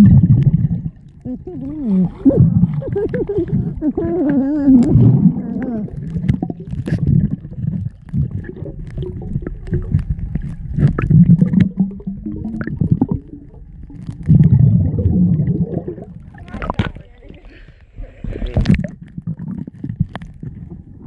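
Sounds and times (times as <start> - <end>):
muffled underwater rumbling: 0.0 - 21.0.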